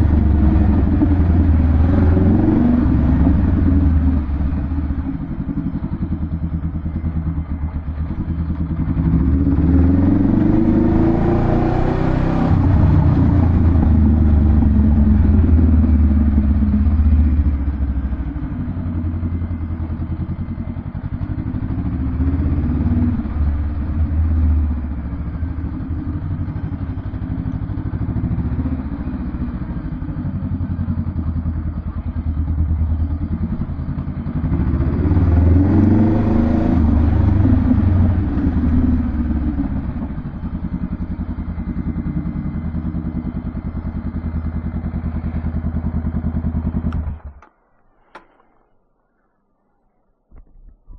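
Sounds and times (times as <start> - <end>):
motorcycle engine rumbling: 0.0 - 50.9.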